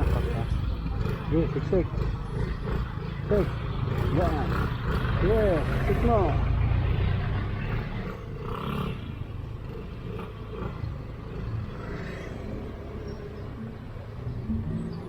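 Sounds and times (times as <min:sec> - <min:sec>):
scooter engine: 0:00.0 - 0:15.0
traffic rumble: 0:00.0 - 0:15.0.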